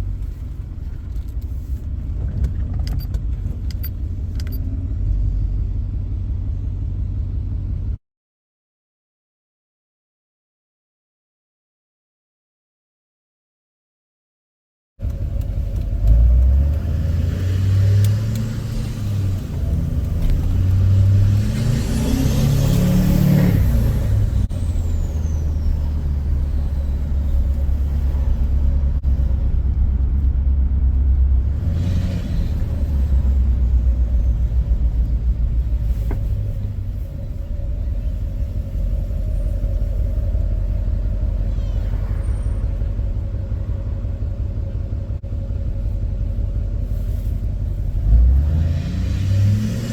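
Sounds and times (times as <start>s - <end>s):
diesel engine accelerating: 0.0s - 8.0s, 15.0s - 49.9s.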